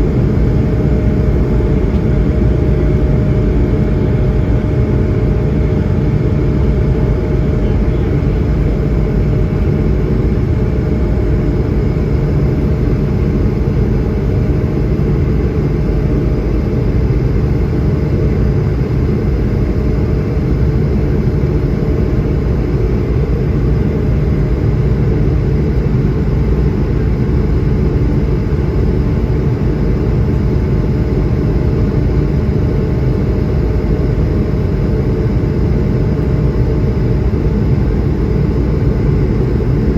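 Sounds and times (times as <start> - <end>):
faint constant whine: 0.0 - 39.9
jet engines droning: 0.0 - 39.9.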